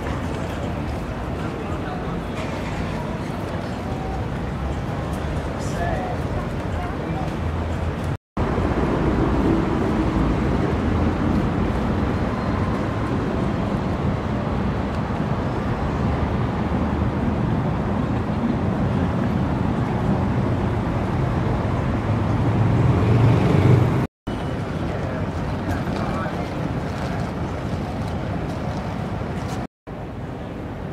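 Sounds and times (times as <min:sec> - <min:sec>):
road traffic hum: 0:00.0 - 0:30.9.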